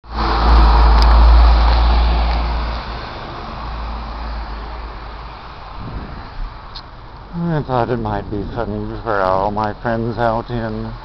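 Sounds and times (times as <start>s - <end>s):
vehicle passing with low rumble: 0.1s - 11.0s.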